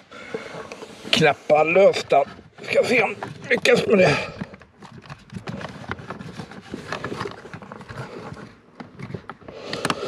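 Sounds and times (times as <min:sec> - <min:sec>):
hands clicking and knocking on plastic: 0:01.9 - 0:10.0.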